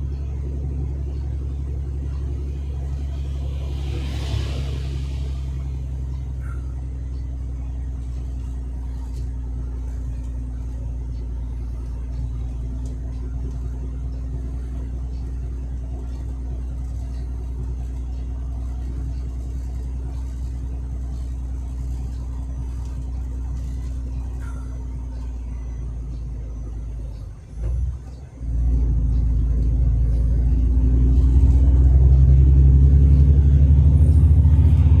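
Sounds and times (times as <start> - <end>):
truck engine humming: 0.0 - 35.0.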